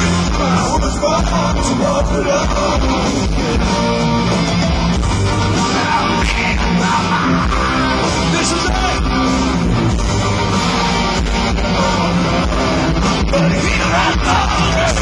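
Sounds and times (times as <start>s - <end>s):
hard rock band playing live: 0.0s - 15.0s.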